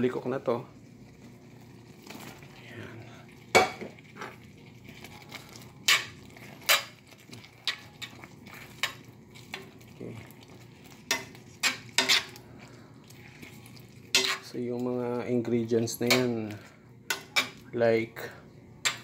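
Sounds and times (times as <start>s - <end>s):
spoon stirring thick sauce: 0.7s - 17.6s.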